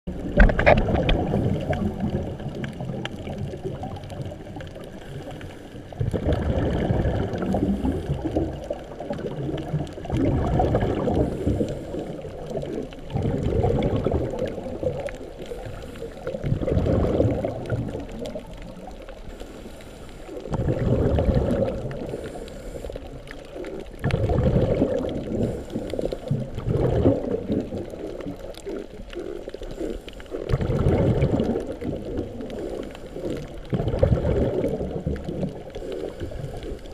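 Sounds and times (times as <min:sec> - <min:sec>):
diver regulator bubbles underwater: 0:00.1 - 0:36.9.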